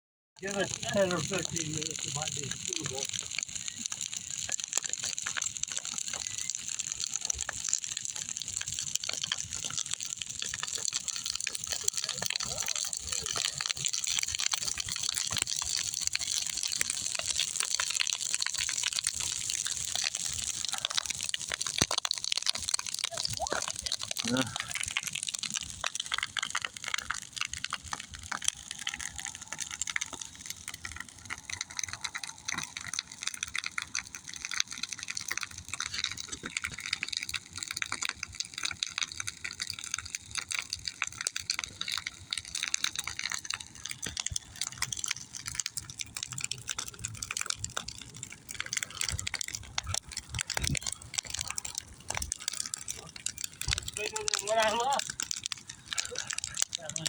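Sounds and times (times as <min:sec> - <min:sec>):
fire crackling and popping: 0:00.4 - 0:57.0
fire rushing: 0:00.4 - 0:57.0.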